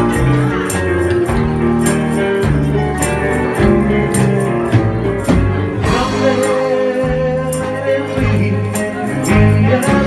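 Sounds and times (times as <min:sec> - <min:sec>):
bass line: 0:00.0 - 0:10.0
electric guitar: 0:00.0 - 0:10.0.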